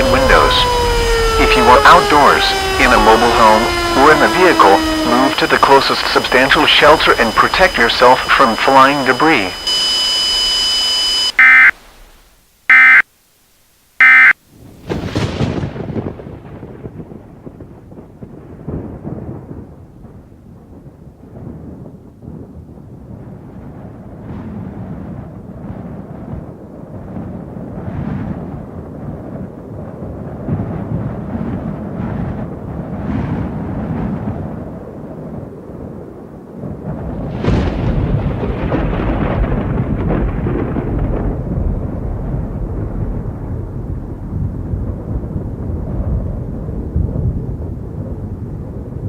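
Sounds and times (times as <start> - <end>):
low rolling thunder: 0.0 - 8.6, 14.8 - 49.0
thunder crack: 0.0 - 11.5, 14.8 - 35.5, 36.6 - 49.0.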